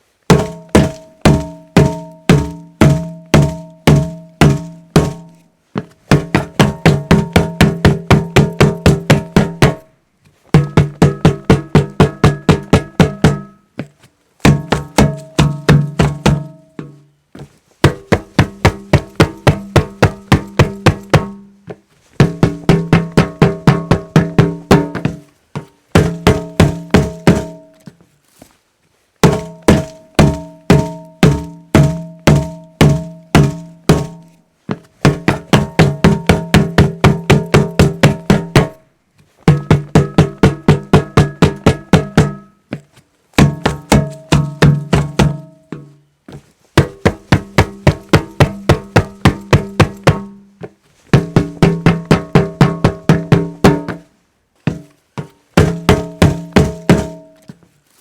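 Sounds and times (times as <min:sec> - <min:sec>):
hollow object knocked resonantly: 0:00.3 - 0:05.4, 0:06.1 - 0:09.9, 0:10.6 - 0:13.6, 0:14.4 - 0:17.0, 0:17.8 - 0:27.9, 0:29.2 - 0:34.4, 0:35.0 - 0:38.8, 0:39.5 - 0:42.6, 0:43.4 - 0:46.0, 0:46.8 - 0:50.4, 0:51.2 - 0:54.1, 0:54.7 - 0:57.6.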